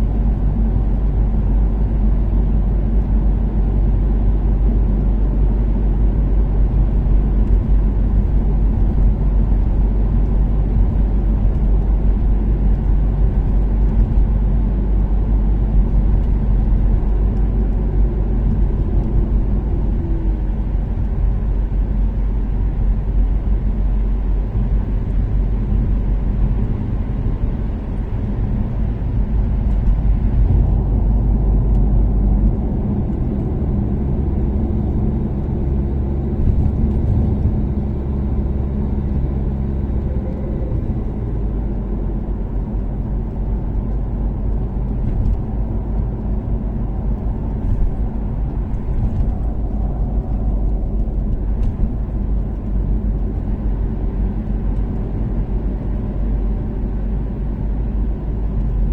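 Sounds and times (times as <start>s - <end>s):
car engine cruising: 0.0s - 58.9s
tyre and road noise: 0.0s - 58.9s.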